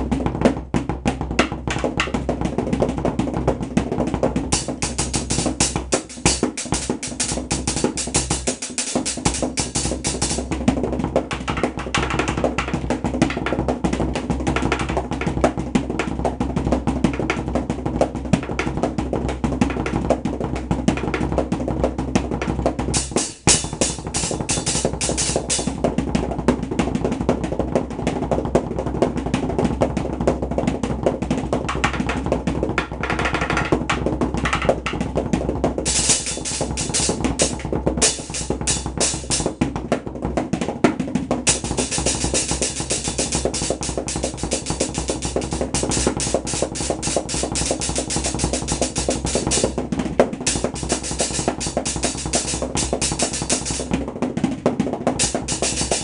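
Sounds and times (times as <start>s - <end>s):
drumming on metal cans: 0.0s - 56.0s.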